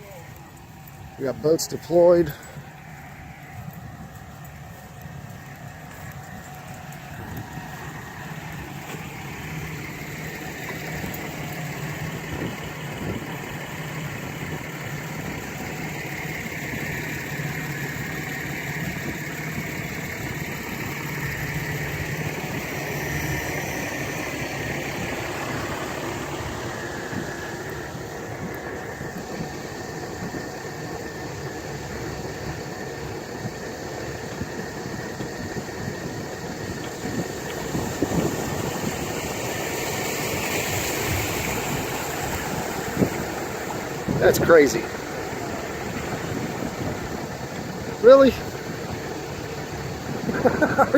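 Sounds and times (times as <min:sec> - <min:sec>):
engine running: 0:00.0 - 0:50.9.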